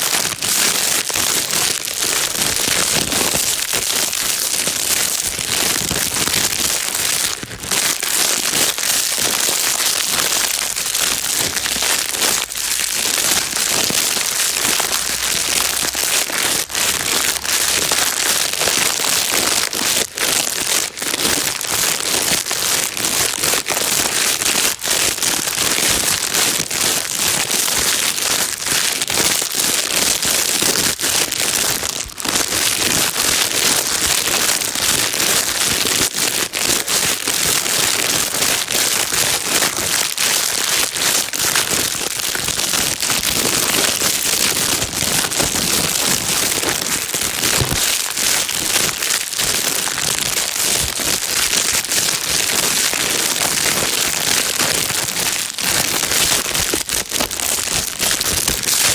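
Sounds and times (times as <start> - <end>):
plastic bag crinkling: 0.0 - 58.9.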